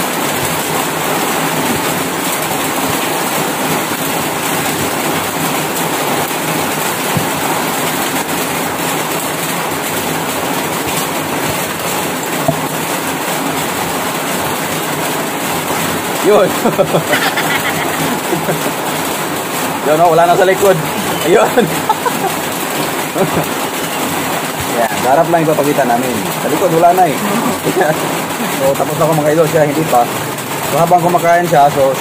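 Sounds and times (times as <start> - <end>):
heavy rain hiss: 0.0 - 32.0.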